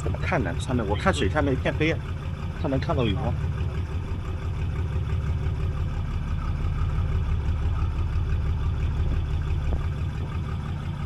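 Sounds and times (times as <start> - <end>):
boat engine pulsing hum: 0.0 - 11.0.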